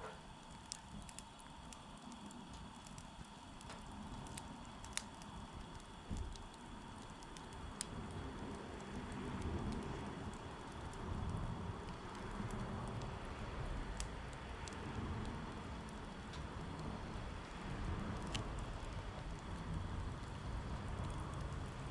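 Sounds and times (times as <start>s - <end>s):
campfire crackling: 0.0s - 21.9s
fire pops: 0.0s - 21.9s.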